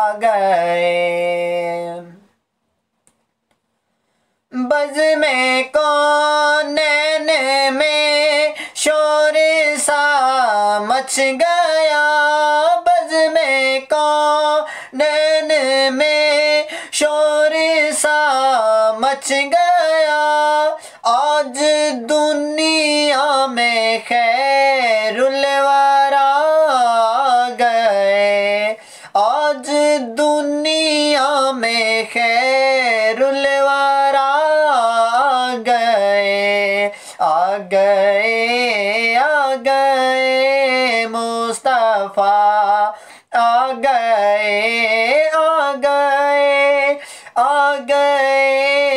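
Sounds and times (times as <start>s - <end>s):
man singing unaccompanied: 0.0s - 2.4s, 4.5s - 48.9s.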